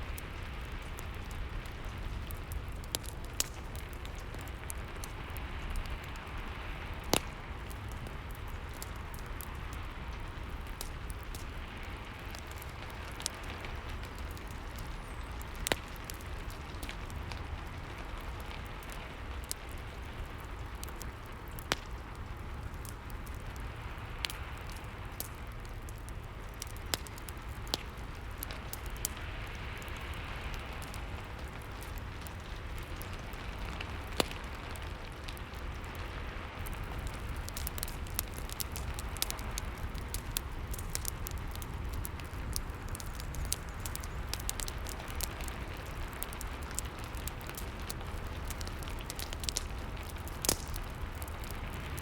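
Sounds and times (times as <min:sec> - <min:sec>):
fireplace crackling: 0:00.0 - 0:52.0
steady rain: 0:00.0 - 0:52.0.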